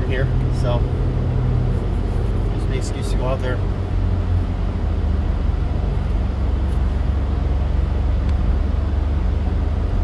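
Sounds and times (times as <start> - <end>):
car road noise on wet road: 0.0 - 10.0.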